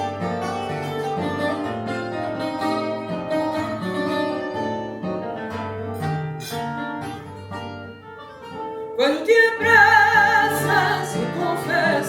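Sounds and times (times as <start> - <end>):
plucked guitars playing: 0.0 - 12.0.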